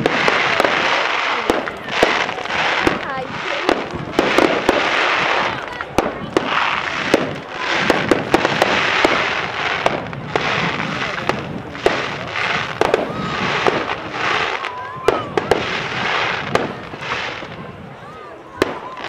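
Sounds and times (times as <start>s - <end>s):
crackling hiss: 0.0s - 17.9s
fireworks bangs and cracks: 0.0s - 19.0s.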